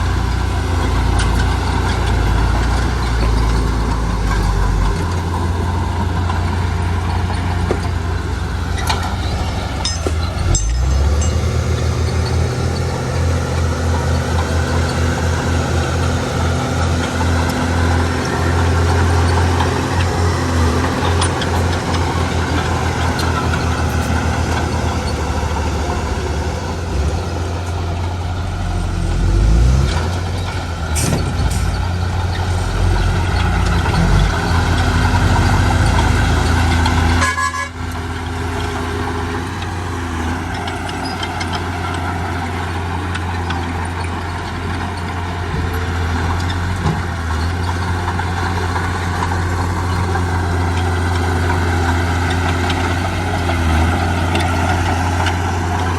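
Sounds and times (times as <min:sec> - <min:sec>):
bulldozer diesel engine: 0:00.0 - 0:55.9
dump truck engine: 0:00.0 - 0:55.9.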